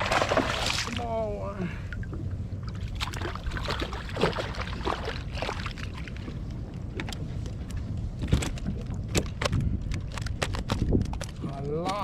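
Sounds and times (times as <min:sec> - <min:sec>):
water splashing against boat: 0:00.0 - 0:11.3
steady low rumble: 0:00.0 - 0:11.8.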